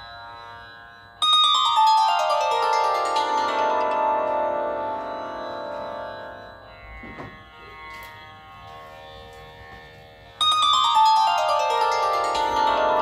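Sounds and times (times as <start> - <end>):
plucked zither strings ringing: 0.0 - 8.6, 10.4 - 13.0
faint tanpura drone: 0.0 - 13.0.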